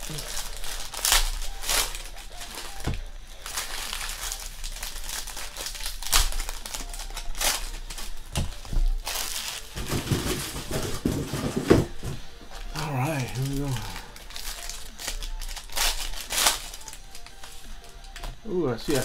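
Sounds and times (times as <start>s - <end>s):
foil wrappers crinkling: 0.0s - 19.0s.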